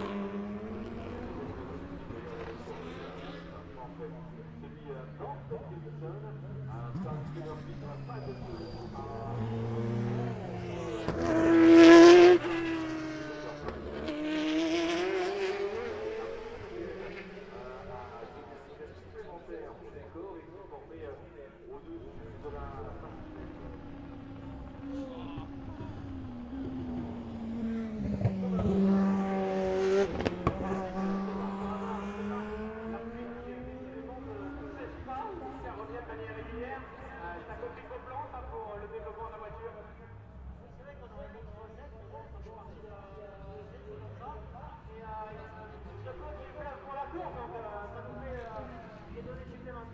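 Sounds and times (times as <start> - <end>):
race car passing by: 0.0 - 49.9.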